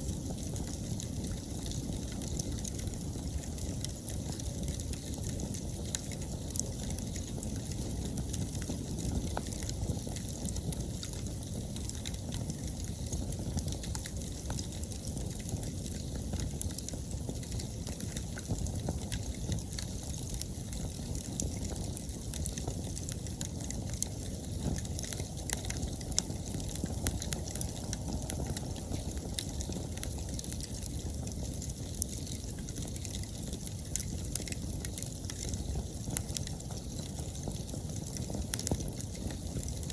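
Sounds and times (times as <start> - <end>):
low rush of flame: 0.0 - 39.9
wood crackling and popping: 0.0 - 39.9.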